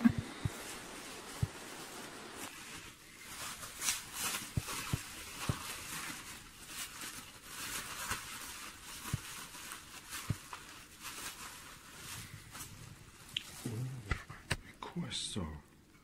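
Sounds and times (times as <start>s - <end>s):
bubble wrap crinkling: 0.0s - 13.9s.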